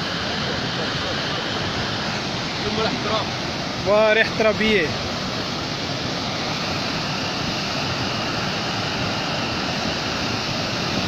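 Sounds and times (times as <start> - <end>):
flood water roaring: 0.0 - 11.0.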